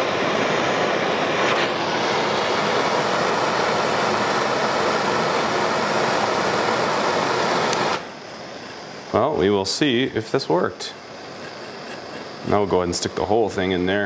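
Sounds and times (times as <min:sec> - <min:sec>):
gas torch flame hissing: 0:00.0 - 0:14.0.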